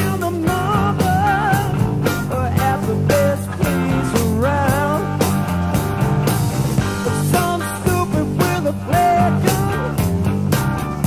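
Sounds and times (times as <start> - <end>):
rock music with bending lead: 0.0 - 11.0.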